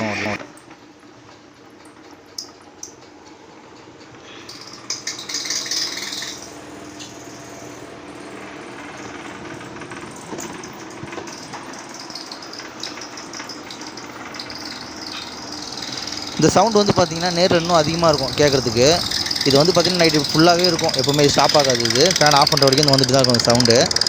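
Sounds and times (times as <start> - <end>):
tower fan rattling: 0.0 - 24.0.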